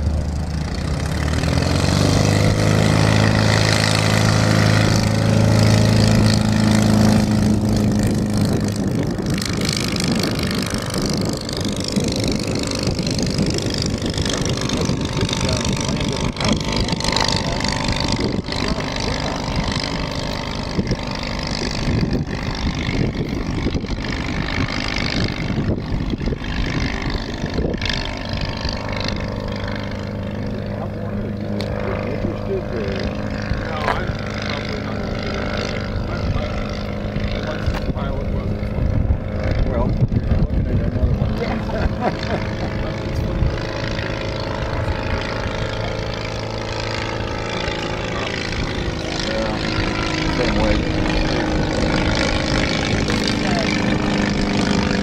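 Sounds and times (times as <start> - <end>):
aircraft engine droning: 0.0 - 55.0
wind buffeting microphone: 0.0 - 55.0.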